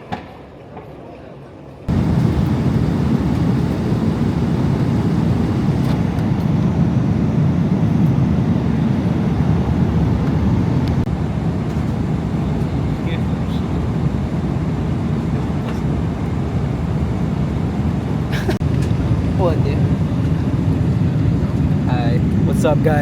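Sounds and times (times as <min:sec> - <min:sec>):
jet engines rumbling in cabin: 0:01.9 - 0:23.0.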